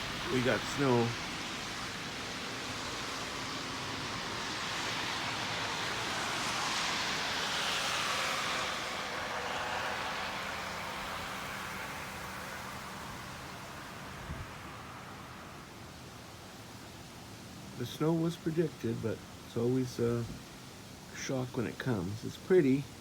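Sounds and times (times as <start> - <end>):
car passing: 0.0 - 20.2.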